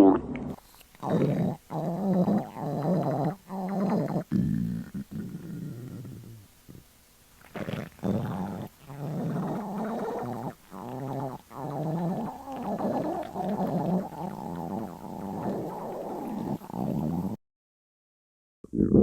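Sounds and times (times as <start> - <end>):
stomach growling: 0.0 - 17.4.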